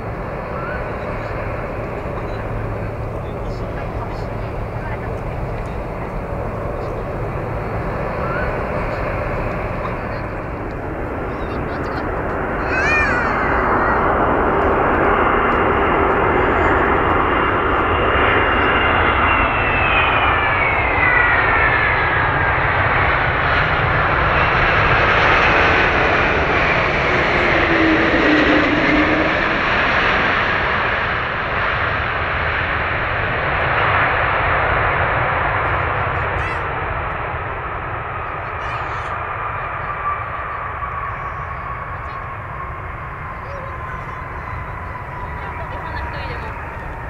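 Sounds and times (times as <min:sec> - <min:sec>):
high jet whine: 0:00.0 - 0:47.0
jet engines roaring: 0:00.0 - 0:47.0.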